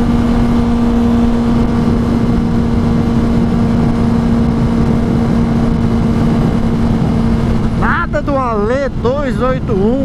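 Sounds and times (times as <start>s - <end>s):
motorcycle engine at high rpm: 0.0s - 10.0s
wind rushing over microphone: 0.0s - 10.0s.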